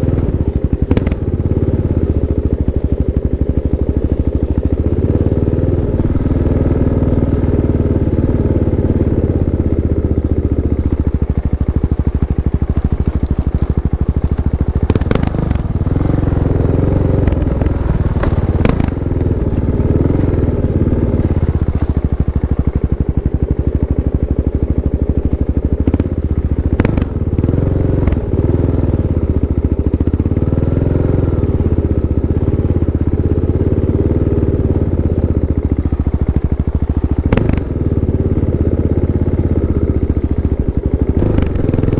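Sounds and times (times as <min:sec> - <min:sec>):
motorcycle engine running at low revs: 0:00.0 - 0:41.9.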